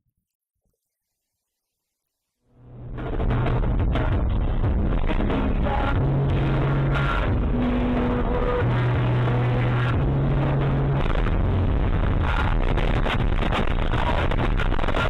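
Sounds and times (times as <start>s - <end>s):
electronic music with bass notes: 2.6s - 15.0s.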